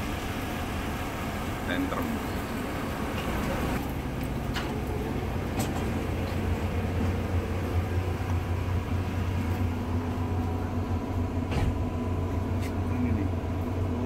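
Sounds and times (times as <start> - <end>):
diesel bus engine idling: 0.0 - 14.0.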